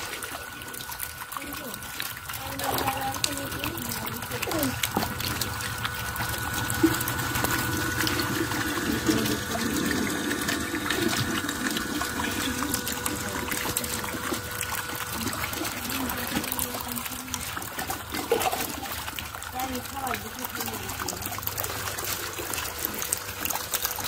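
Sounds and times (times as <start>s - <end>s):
faint steady hum: 0.0s - 24.0s
water trickling and splashing: 0.0s - 24.0s.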